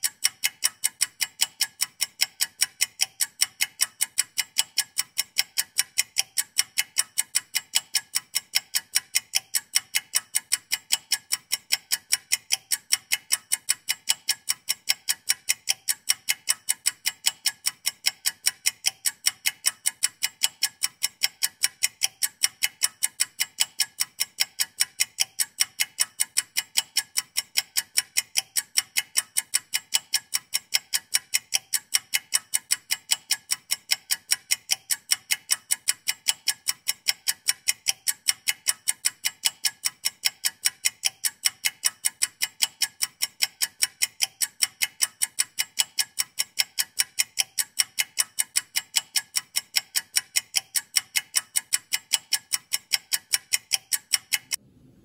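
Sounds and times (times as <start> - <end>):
clock ticking: 0.0 - 54.6.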